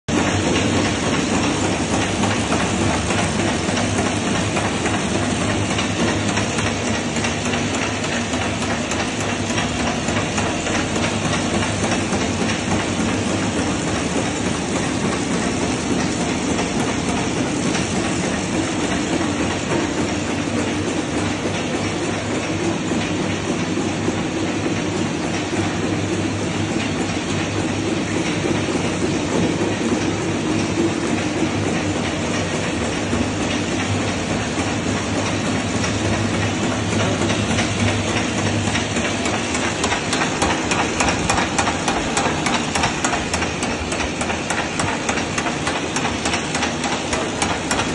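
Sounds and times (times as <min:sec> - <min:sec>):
packaging machine running: 0:00.1 - 0:47.9.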